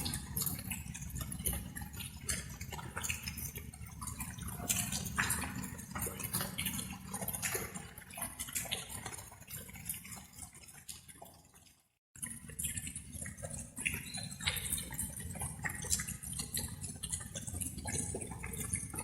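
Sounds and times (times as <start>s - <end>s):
rain drops dripping: 0.0s - 19.0s.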